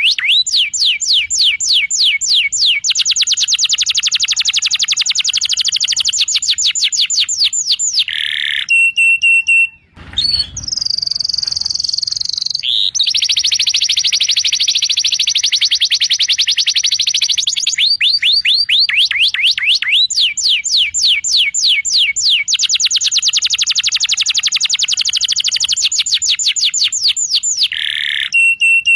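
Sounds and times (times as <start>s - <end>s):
canary singing trills: 0.0s - 28.9s.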